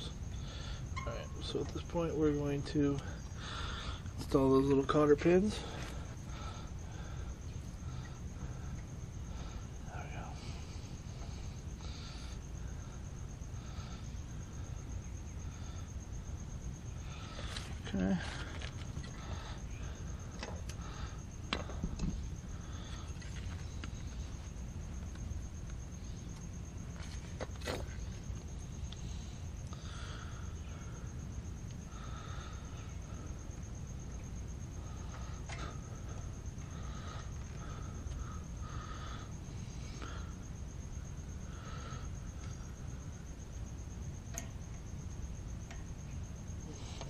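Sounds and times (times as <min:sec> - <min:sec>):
crickets chirping: 0:00.0 - 0:47.0
steady low hum: 0:00.0 - 0:47.0.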